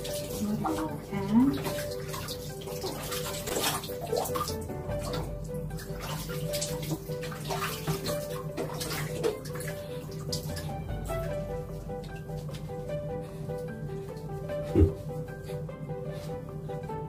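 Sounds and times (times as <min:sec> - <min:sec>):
water splashing and trickling: 0:00.0 - 0:15.3
soft background music: 0:00.0 - 0:17.0.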